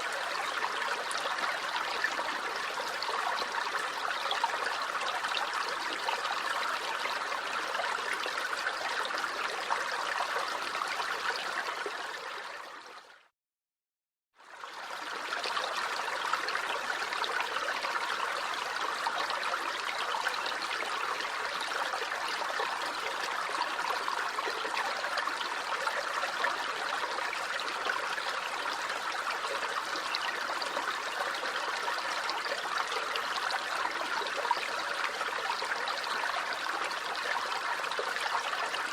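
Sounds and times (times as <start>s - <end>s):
stream water babbling: 0.0s - 13.3s, 14.4s - 38.9s.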